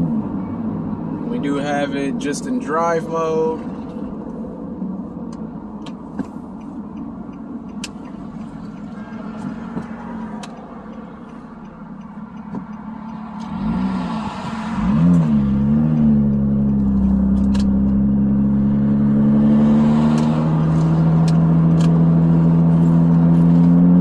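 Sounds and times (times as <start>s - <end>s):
car exhaust drone: 0.0s - 24.0s.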